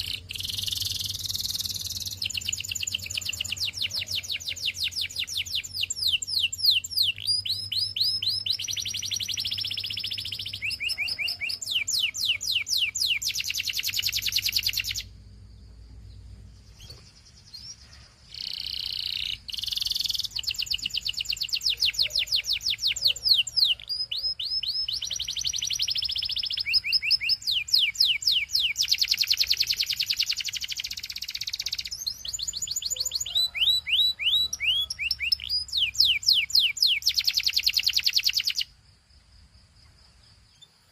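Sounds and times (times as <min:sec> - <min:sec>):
canary singing trills: 0:00.0 - 0:15.3, 0:16.0 - 0:38.8.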